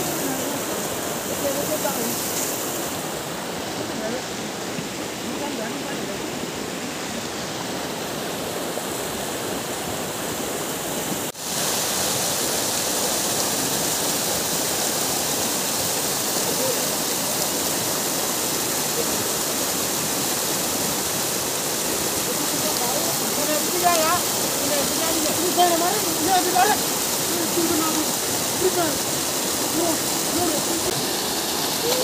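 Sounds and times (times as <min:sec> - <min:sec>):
stream water flowing over rocks: 0:00.0 - 0:32.0
white water cascade: 0:00.0 - 0:32.0.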